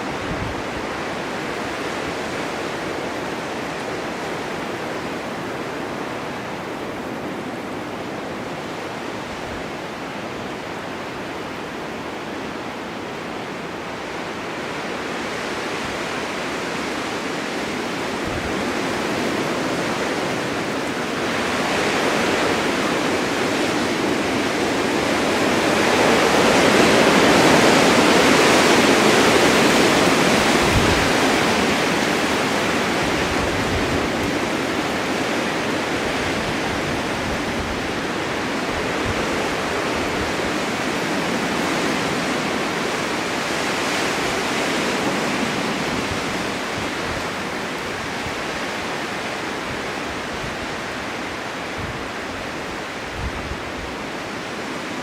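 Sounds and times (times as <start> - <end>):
blizzard wind rushing: 0.0 - 55.0.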